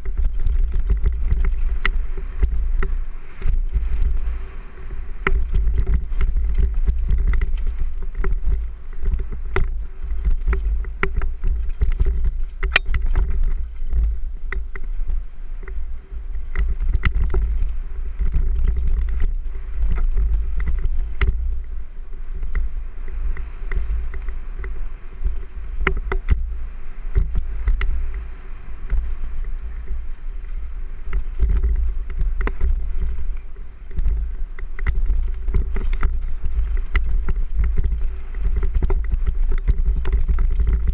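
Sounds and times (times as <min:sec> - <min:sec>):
mountain bike rattling: 0:00.0 - 0:40.9
wind buffeting microphone: 0:00.0 - 0:40.9.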